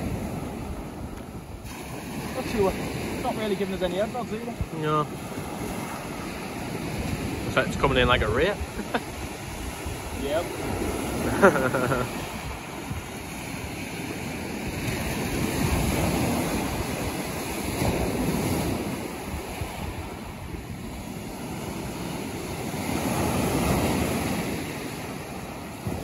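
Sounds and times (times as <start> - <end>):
surf breaking on beach: 0.0 - 26.0
wind on microphone: 0.0 - 26.0.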